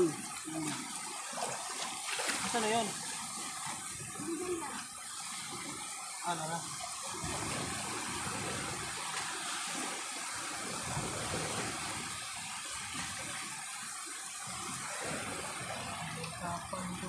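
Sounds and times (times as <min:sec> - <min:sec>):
shallow water sloshing and splashing: 0:00.0 - 0:17.0.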